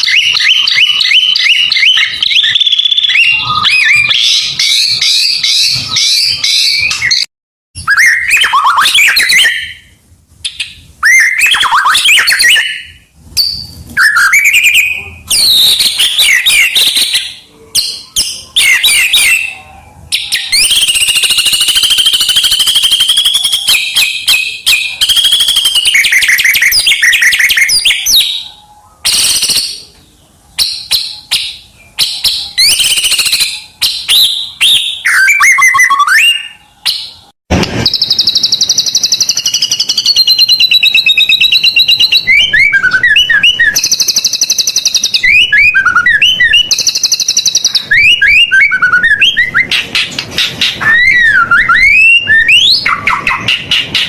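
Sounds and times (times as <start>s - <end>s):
songbird singing loudly: 0.0s - 37.3s, 37.9s - 54.0s.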